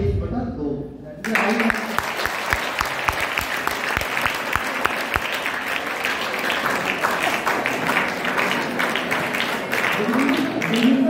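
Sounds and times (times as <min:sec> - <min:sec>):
audience applauding: 0:01.2 - 0:11.0
heavy evenly spaced claps: 0:01.2 - 0:11.0.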